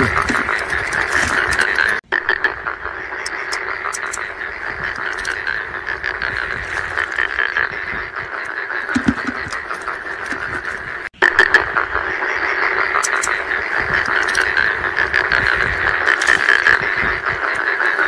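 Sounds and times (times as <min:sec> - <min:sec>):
chorus of frogs calling: 0:00.0 - 0:18.0.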